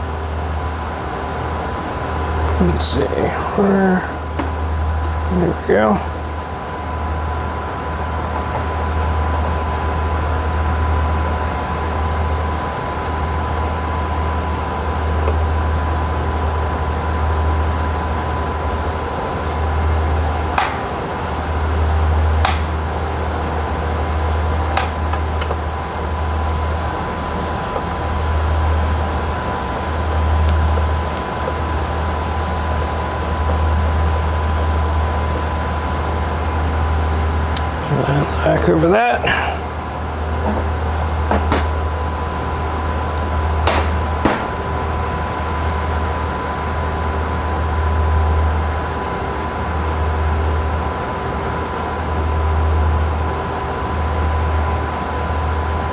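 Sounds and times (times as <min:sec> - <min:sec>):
high whine: 0:00.0 - 0:47.1
cooling fans whirring: 0:00.0 - 0:55.9.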